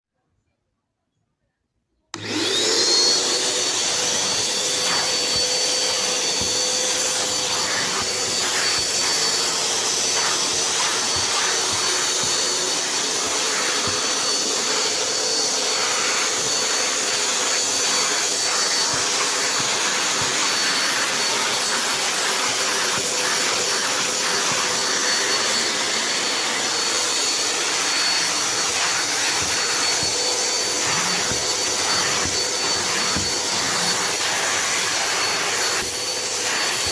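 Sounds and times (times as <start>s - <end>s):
vacuum cleaner motor running: 2.1s - 36.9s.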